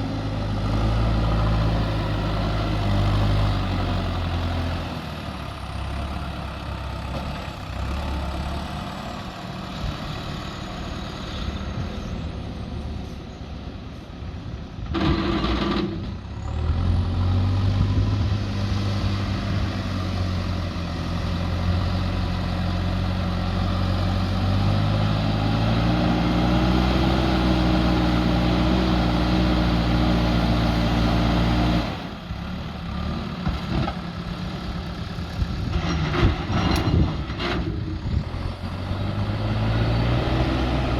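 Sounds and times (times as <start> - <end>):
diesel engine revving: 0.0 - 13.2, 14.8 - 40.9.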